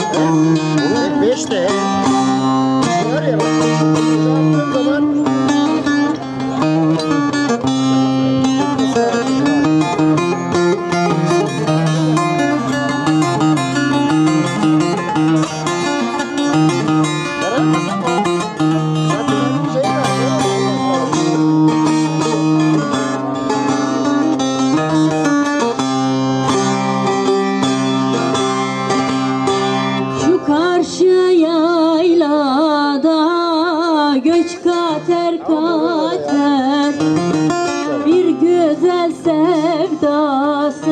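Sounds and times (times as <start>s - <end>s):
plucked lute melody with drone: 0.0s - 40.9s.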